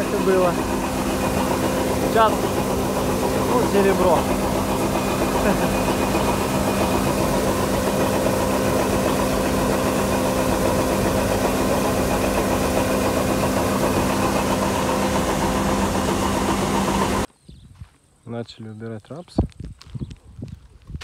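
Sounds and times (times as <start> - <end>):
farm machine engine humming: 0.0 - 17.3.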